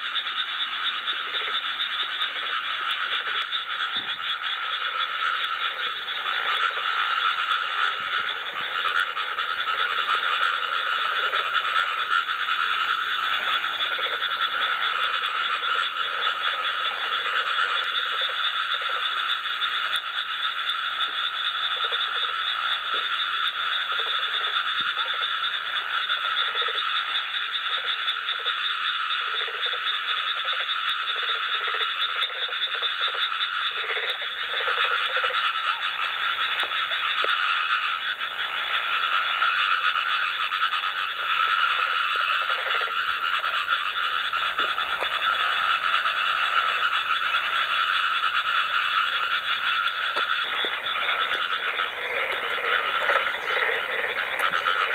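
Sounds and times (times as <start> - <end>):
frogs trilling: 0.0 - 54.9
low frog croaks: 0.0 - 54.9.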